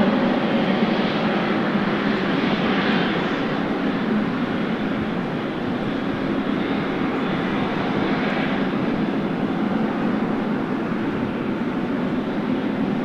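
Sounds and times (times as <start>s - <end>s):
jet engines running: 0.0s - 13.0s
wind noise: 0.0s - 13.0s.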